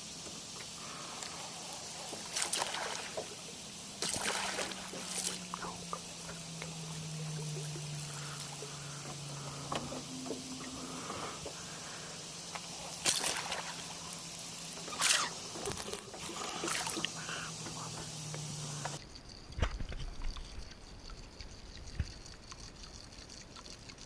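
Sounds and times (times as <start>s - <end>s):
steady low hum: 0.0s - 24.0s
water splashing and sloshing: 0.0s - 24.0s.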